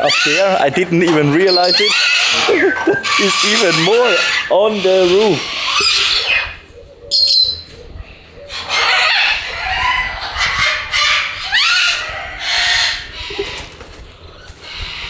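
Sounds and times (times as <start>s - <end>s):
parrots screeching and squawking: 0.0s - 7.7s, 8.5s - 15.0s.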